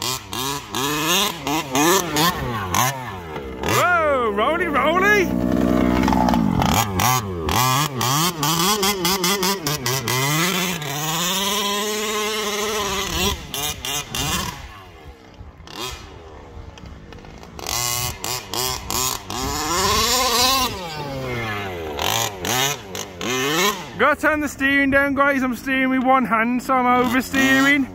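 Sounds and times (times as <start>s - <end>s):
small two-stroke engine revving: 0.0s - 27.9s.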